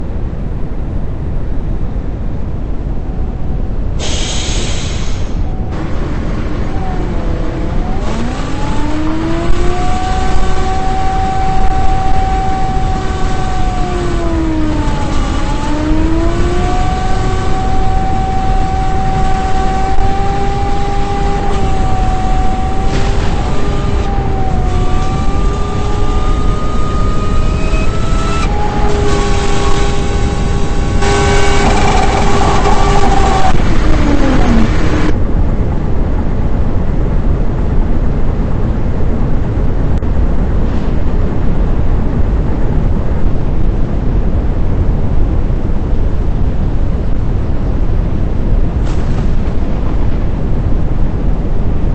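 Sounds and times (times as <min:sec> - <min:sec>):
road and wind noise: 0:00.0 - 0:51.9
vehicle engine running: 0:04.6 - 0:51.9.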